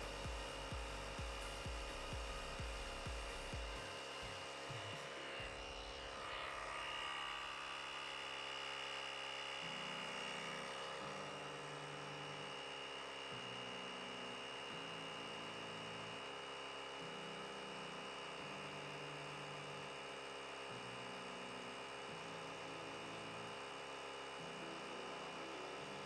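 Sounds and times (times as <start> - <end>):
air compressor running with whine: 0.0 - 26.0.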